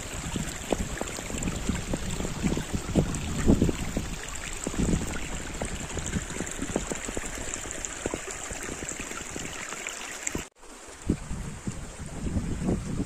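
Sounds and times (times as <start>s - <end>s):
stream burbling over rocks: 0.0s - 13.0s.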